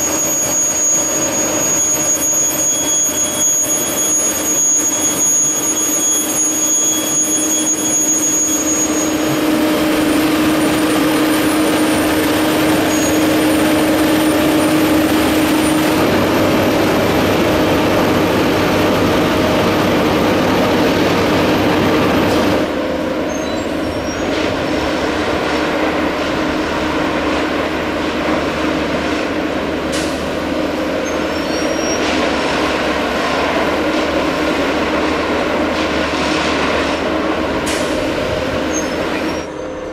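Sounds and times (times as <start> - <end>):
high whine: 0.0 - 35.6
track machines diesel drone: 0.0 - 39.9.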